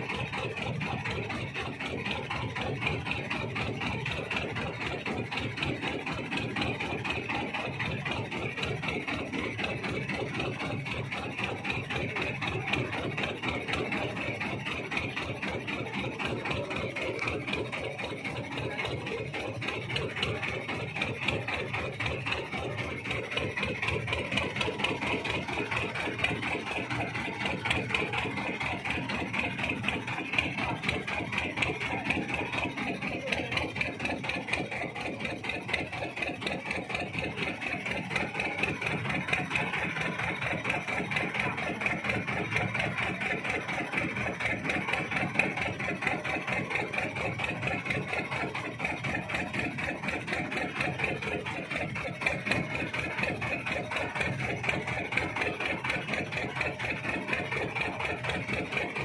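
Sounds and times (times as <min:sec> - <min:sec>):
engine chugging steadily: 0:00.0 - 0:59.0.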